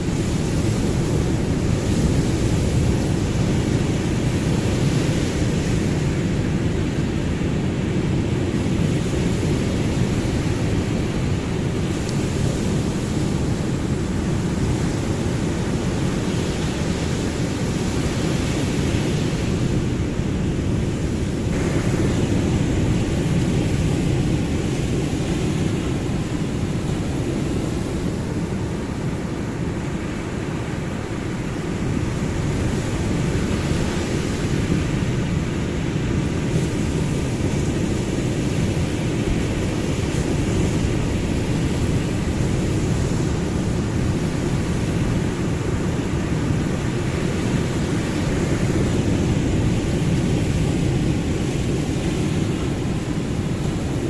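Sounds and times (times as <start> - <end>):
ocean waves: 0.0 - 54.0.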